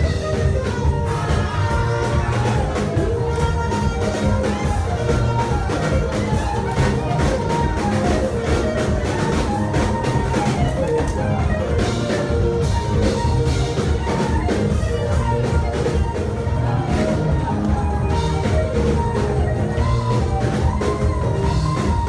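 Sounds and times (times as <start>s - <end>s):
guitar: 0.0s - 22.0s
steady drum beat: 0.0s - 22.0s.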